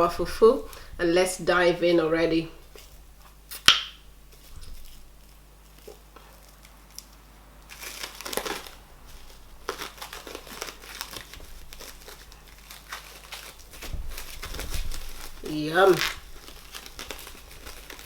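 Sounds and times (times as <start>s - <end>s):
plastic wrap crinkling: 0.0s - 18.0s.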